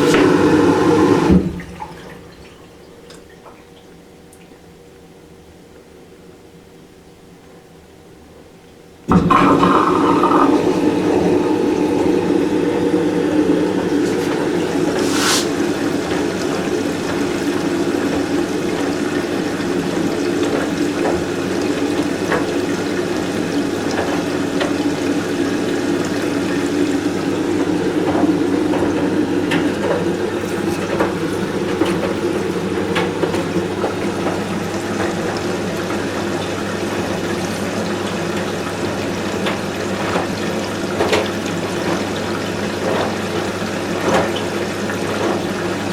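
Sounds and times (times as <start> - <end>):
water rushing in washing machine: 0.0 - 4.3, 9.0 - 45.9
washing machine low hum: 0.0 - 45.9.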